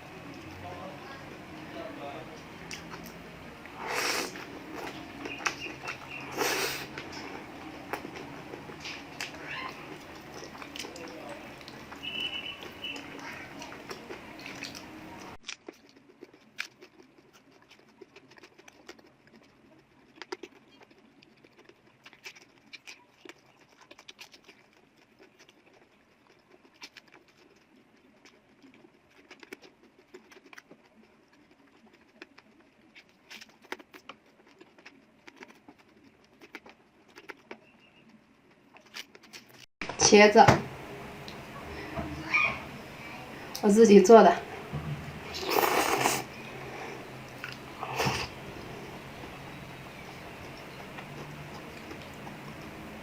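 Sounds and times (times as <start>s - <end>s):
chewing sounds: 0.0s - 39.7s, 44.4s - 53.0s.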